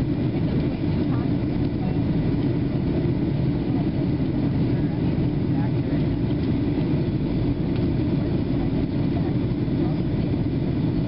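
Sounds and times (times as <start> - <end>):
airflow over fuselage: 0.0 - 11.0
jet engines in cabin: 0.0 - 11.0.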